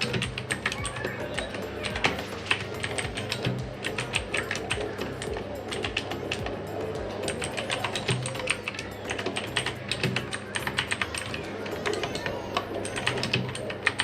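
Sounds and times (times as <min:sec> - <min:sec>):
mechanical keyboard clicking: 0:00.0 - 0:06.6, 0:07.2 - 0:14.0
background music: 0:00.0 - 0:14.0.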